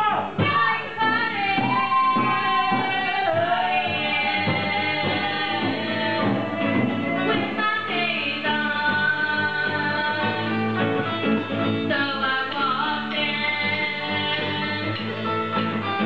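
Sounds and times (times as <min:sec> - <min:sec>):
woman singing into microphone: 0:00.0 - 0:15.8
electric guitar: 0:00.0 - 0:16.0
strummed acoustic guitar: 0:00.4 - 0:16.0.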